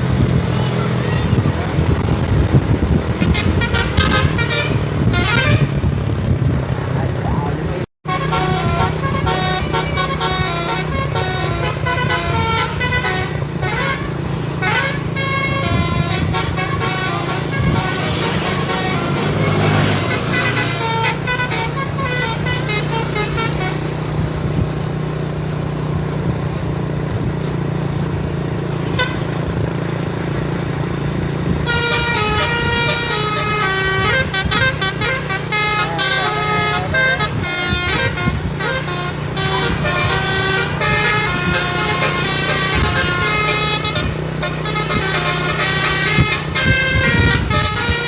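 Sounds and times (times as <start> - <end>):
low engine hum: 0.0 - 48.0
musical air horn playing a tune: 0.2 - 6.2, 8.0 - 24.6, 28.7 - 29.9, 31.4 - 48.0.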